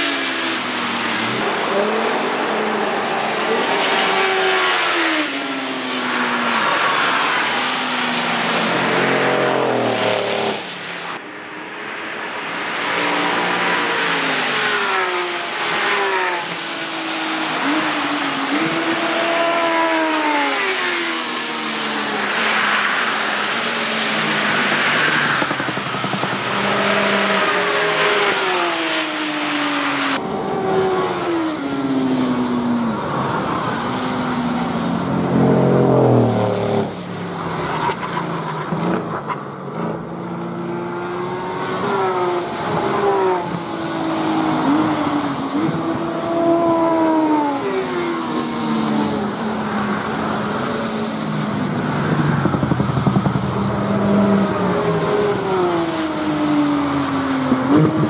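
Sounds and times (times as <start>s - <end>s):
motorcycles passing at speed: 0.0s - 11.7s, 12.7s - 58.0s
sports cars passing at speed: 0.0s - 58.0s.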